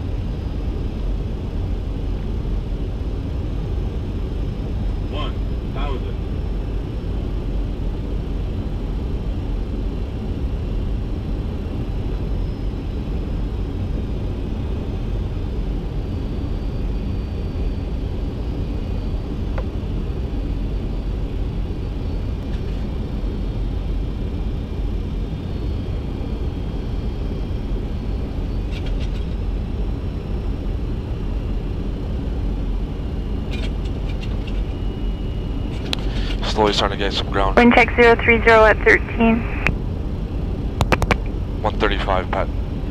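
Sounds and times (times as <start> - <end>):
airplane cockpit rumble: 0.0 - 42.9.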